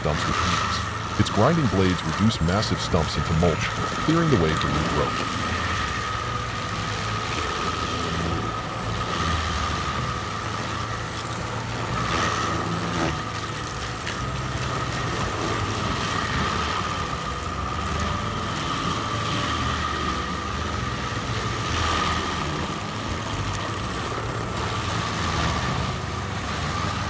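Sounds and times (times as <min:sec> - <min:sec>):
cutting wheel high whine: 0:00.0 - 0:27.0
stump grinder engine drone: 0:00.0 - 0:27.0.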